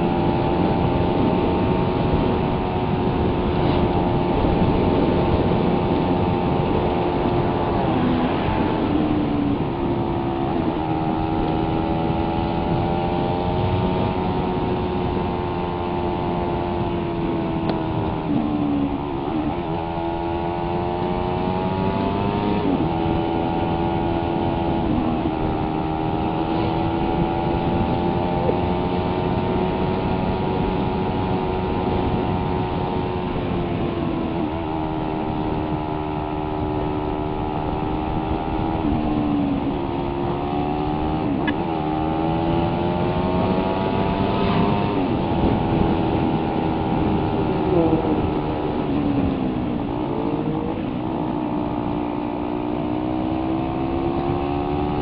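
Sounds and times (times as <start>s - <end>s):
steady rushing noise: 0.0s - 52.9s
motorcycle engine running: 0.0s - 55.0s.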